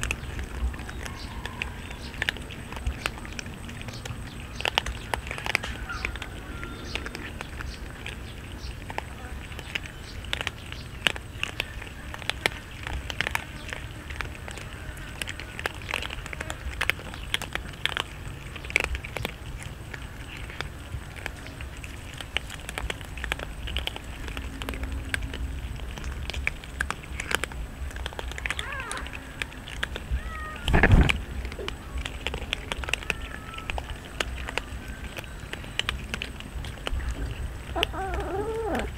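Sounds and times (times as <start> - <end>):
cats crunching dry kibble: 0.0 - 38.9.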